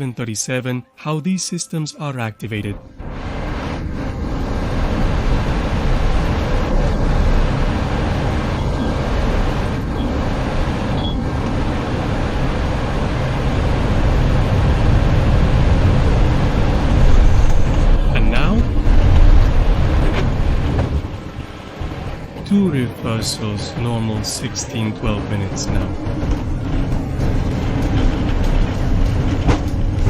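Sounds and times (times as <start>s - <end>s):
jet engine and air rush: 2.6s - 30.0s.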